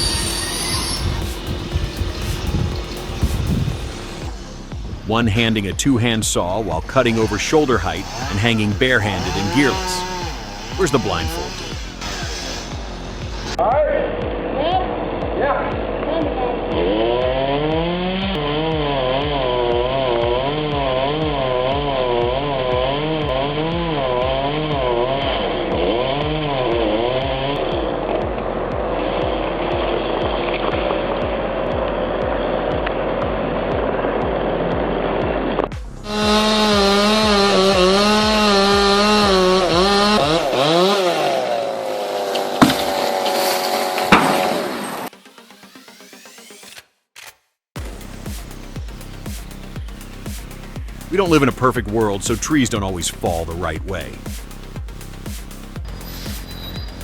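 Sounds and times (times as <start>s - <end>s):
chainsaw cutting wood: 0.0s - 5.0s, 6.9s - 13.6s, 14.2s - 57.0s.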